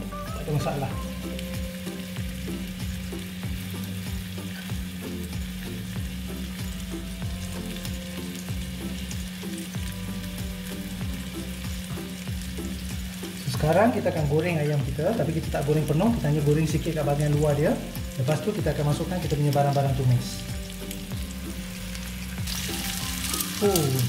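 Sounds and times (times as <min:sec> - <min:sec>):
chicken frying in oil: 0:00.0 - 0:24.0.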